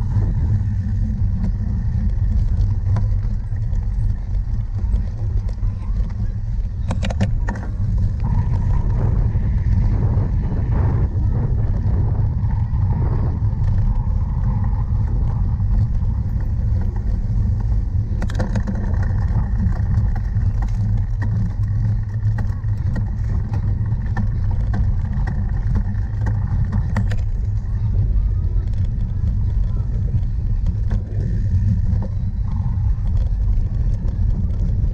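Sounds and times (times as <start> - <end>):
bike rattles and clicks: 0.0 - 34.9
wind rumbling on microphone: 0.0 - 34.9.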